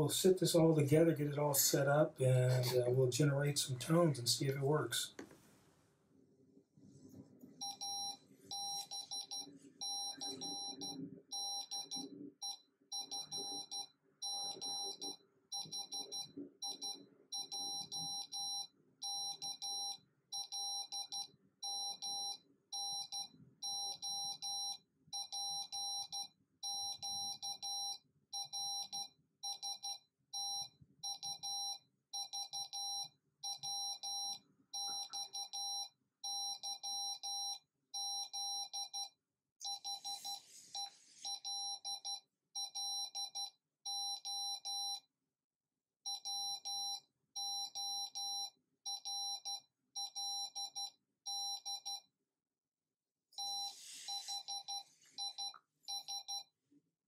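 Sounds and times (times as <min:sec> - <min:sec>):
morse code beeps: 0:07.6 - 0:45.0, 0:46.1 - 0:52.0, 0:53.4 - 0:56.5.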